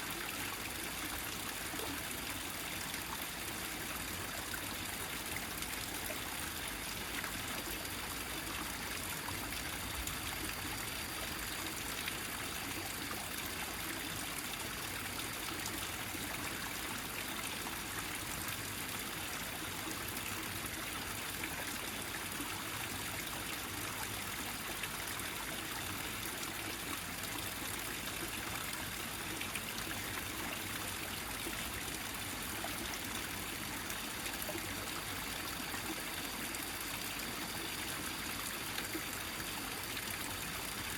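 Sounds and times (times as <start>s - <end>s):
mountain stream trickling: 0.0s - 40.9s.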